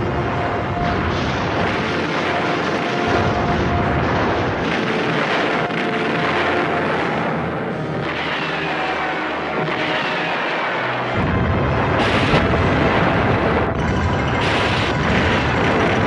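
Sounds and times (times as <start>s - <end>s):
rushing aircraft roar: 0.0s - 16.0s.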